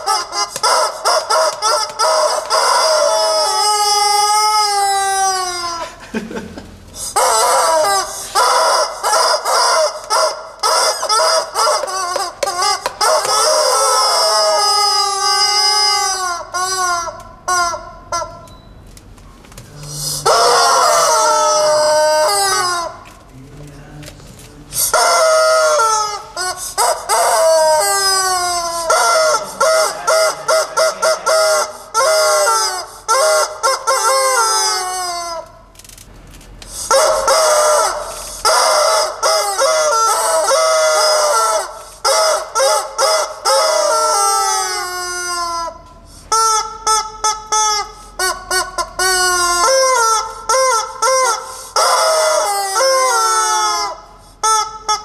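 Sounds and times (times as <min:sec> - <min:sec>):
rubber chicken toys squawking: 0:00.0 - 0:06.0, 0:07.0 - 0:18.6, 0:19.7 - 0:23.3, 0:24.4 - 0:35.8, 0:36.6 - 0:55.0.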